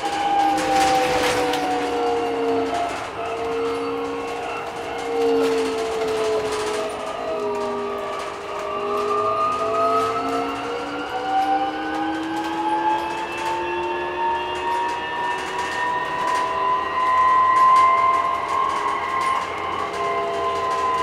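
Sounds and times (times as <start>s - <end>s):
electric bus motor whine: 0.0s - 21.0s.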